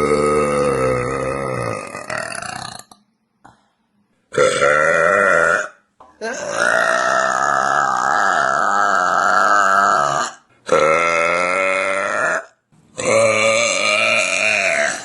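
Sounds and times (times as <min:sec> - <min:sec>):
woman burping loudly: 0:00.0 - 0:03.0, 0:04.3 - 0:15.0.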